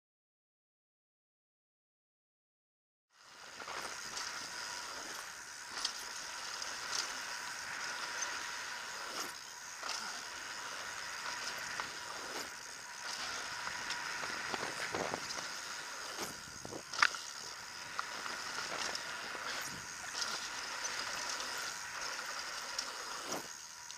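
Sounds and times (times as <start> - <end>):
bike rattling and clicking: 3.2 - 23.9.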